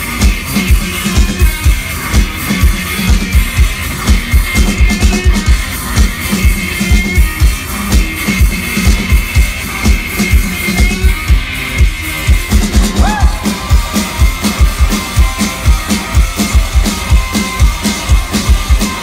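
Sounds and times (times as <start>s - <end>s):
drum kit: 0.0s - 19.0s
electric guitar: 0.0s - 19.0s.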